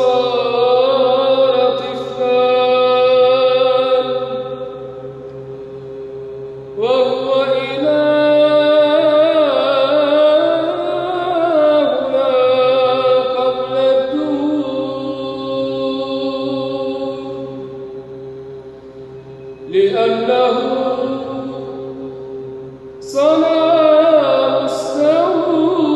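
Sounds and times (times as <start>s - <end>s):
man chanting a hymn: 0.0s - 5.1s, 6.8s - 18.0s, 19.7s - 22.1s, 23.0s - 25.9s
steady drone: 0.0s - 25.9s.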